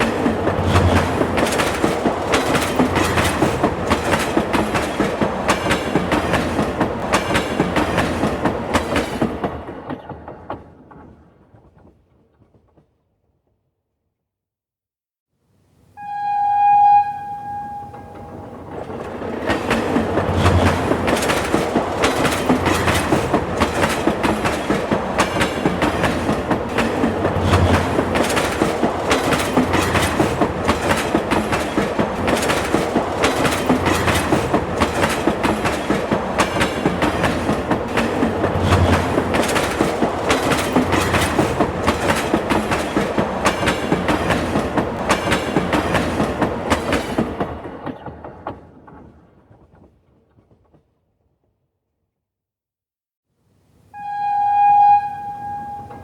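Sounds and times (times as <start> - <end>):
train wheels clacking on rails: 0.0 - 12.0, 17.5 - 50.9.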